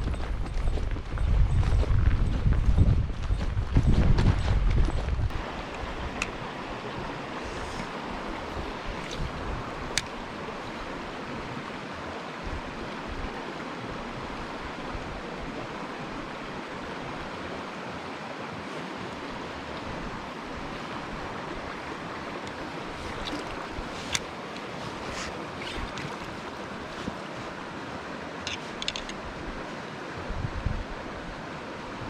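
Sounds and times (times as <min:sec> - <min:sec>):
mountain stream flowing: 0:05.3 - 0:32.0.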